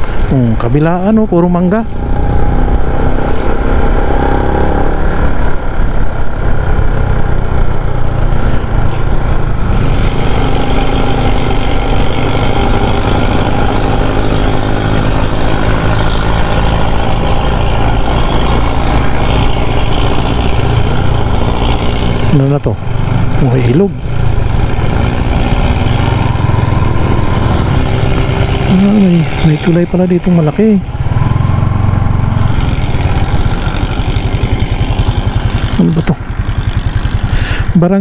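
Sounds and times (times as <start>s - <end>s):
rushing wind noise: 0.0s - 37.8s
motorcycle engine droning: 0.0s - 38.0s.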